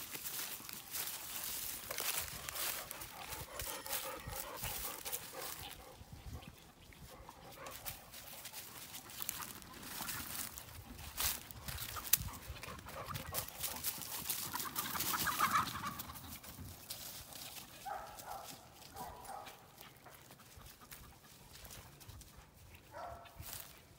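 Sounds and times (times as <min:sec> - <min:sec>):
paws rustling on leaves: 0:00.0 - 0:23.9.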